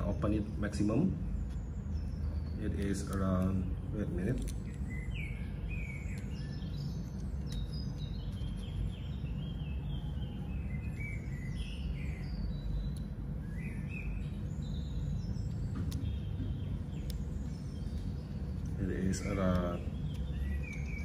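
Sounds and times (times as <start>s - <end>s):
birds chirping: 0.0s - 21.0s
low outdoor rumble: 0.0s - 21.0s.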